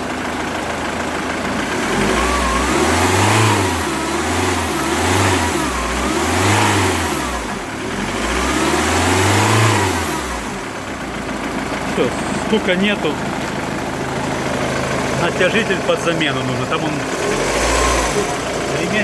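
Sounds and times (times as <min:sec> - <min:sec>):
diesel engine revving in blips: 0:00.0 - 0:19.0.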